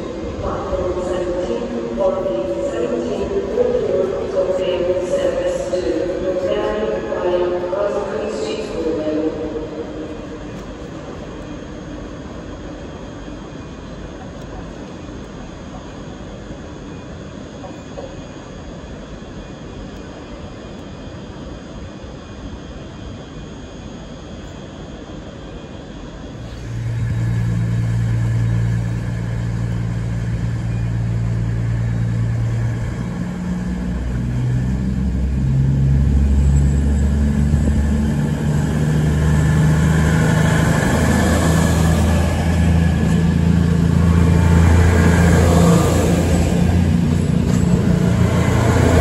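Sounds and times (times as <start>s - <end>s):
diesel train engine running: 0.0s - 49.0s
train rumble and rush: 0.0s - 49.0s.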